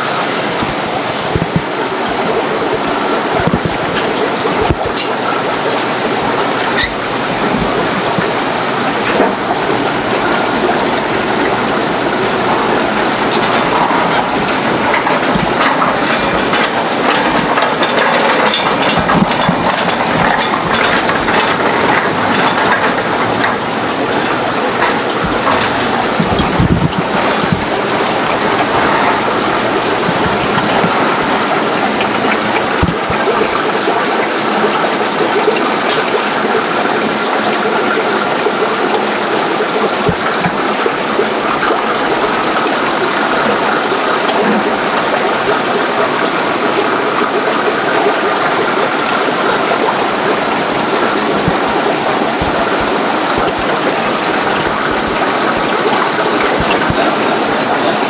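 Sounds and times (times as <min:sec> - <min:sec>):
running and bubbling water: 0:00.0 - 0:58.0.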